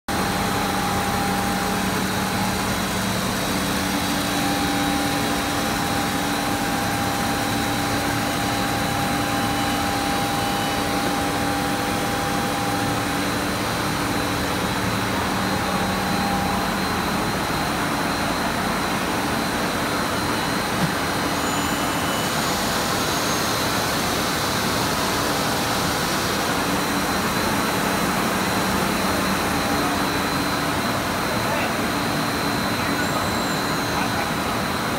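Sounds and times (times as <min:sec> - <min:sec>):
machine hum with held tones: 0:00.1 - 0:34.9.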